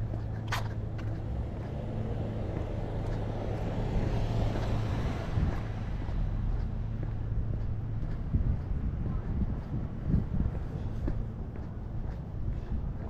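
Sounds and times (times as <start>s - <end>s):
street ambience rumble: 0.0s - 13.0s.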